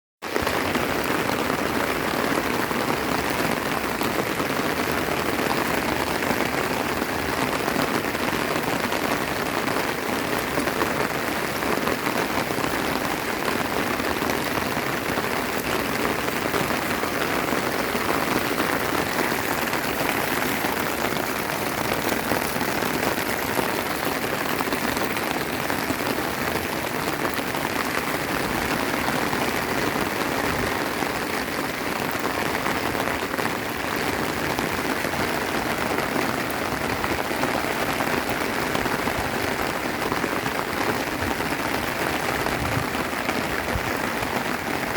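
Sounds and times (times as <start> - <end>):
heavy rain: 0.2 - 44.9.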